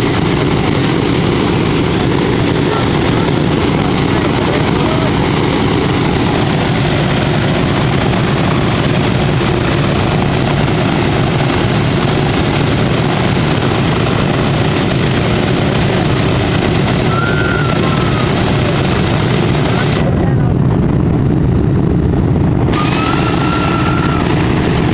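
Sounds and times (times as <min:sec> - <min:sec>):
propeller engines roaring: 0:00.0 - 0:24.9.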